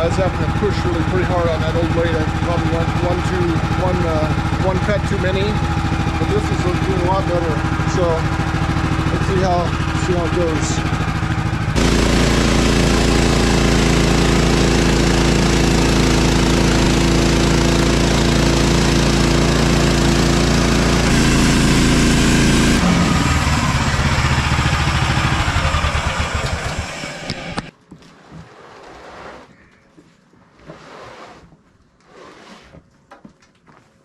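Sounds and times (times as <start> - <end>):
sawmill engine running: 0.0 - 27.7.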